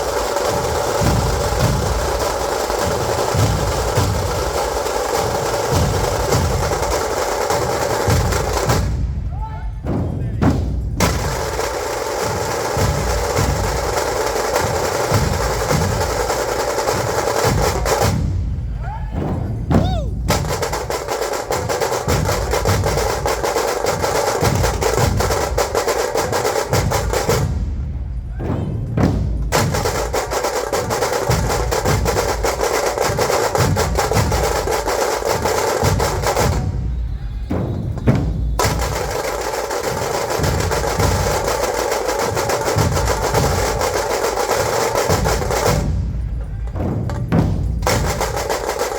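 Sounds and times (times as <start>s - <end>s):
heavy low drum beats: 0.0s - 48.9s
sharp snare-like drum rolls: 0.0s - 48.9s.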